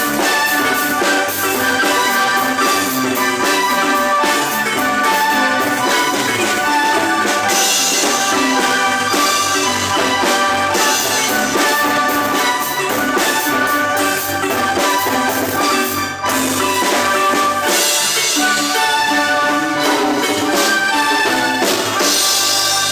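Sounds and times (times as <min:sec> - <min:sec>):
marimba ensemble playing: 0:00.0 - 0:22.9.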